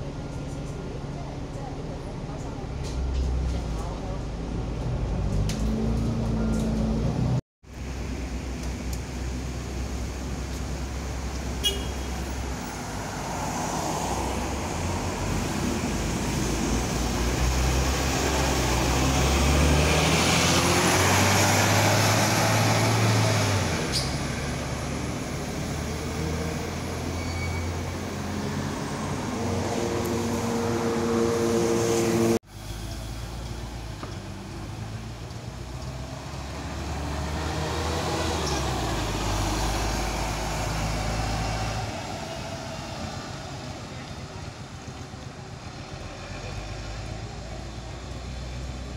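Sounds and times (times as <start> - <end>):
bus engine: 0.0 - 48.9
street traffic: 0.0 - 48.9.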